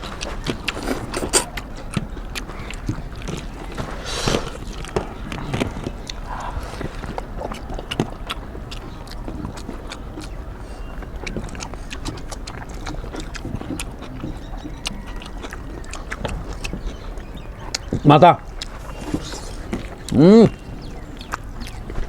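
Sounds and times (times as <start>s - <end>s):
chewing and lip-smacking: 0.0s - 22.0s.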